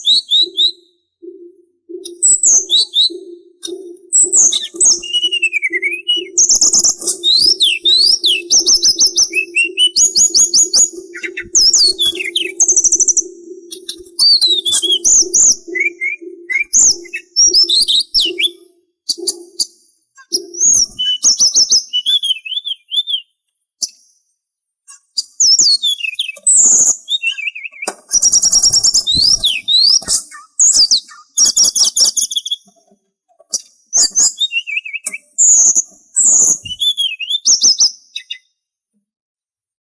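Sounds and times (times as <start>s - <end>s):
songbird singing: 0.0s - 23.3s, 24.9s - 32.9s, 33.6s - 38.5s.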